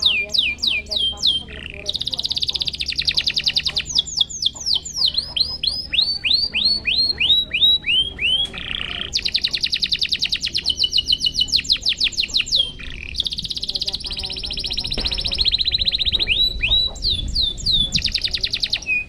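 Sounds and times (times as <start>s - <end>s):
canary singing: 0.0s - 19.0s.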